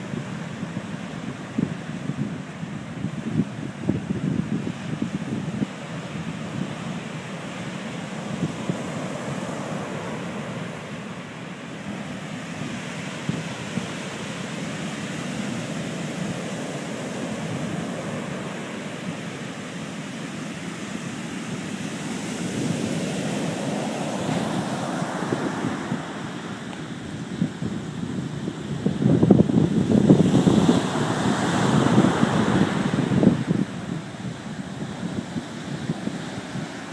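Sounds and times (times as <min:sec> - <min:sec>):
surf breaking on sandy beach: 0:00.0 - 0:36.9
wind rumble on microphone: 0:00.0 - 0:36.9.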